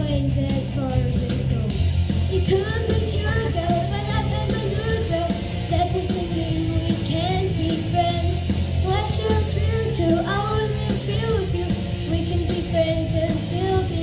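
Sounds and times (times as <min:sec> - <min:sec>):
song playing: 0:00.0 - 0:14.0.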